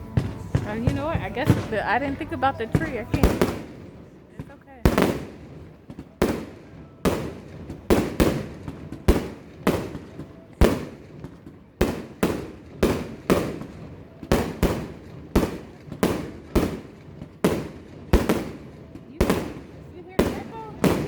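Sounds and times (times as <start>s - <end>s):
fireworks bangs echoing: 0.0s - 21.0s.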